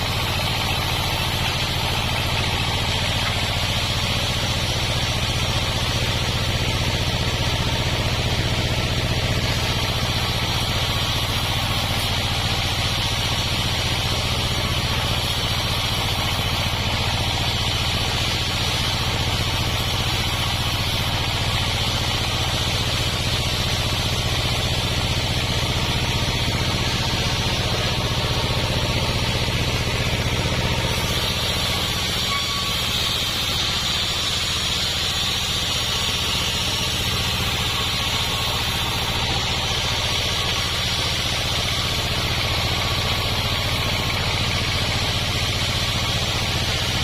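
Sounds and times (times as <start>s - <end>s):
sawmill engine and blade humming: 0.0s - 47.0s.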